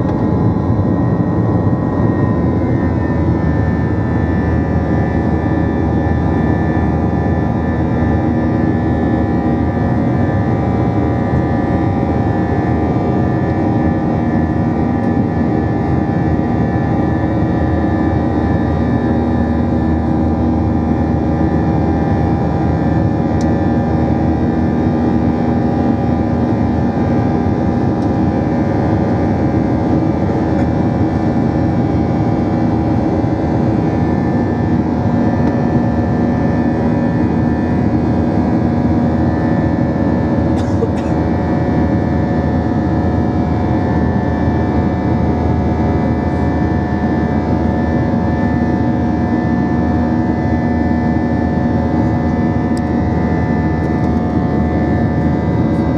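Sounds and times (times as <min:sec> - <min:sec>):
jet engines roaring in cabin: 0:00.0 - 0:55.9.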